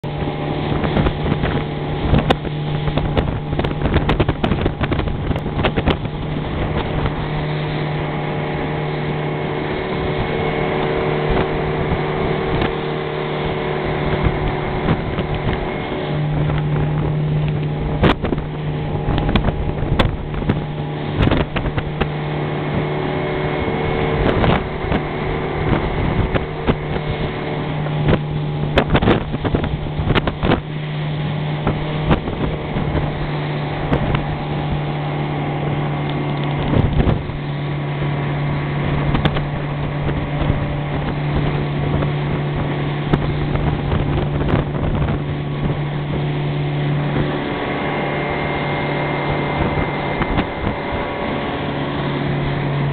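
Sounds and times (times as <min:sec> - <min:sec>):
boat motor running: 0:00.0 - 0:52.9
hull hitting waves: 0:00.0 - 0:52.9
wind on microphone: 0:00.0 - 0:52.9.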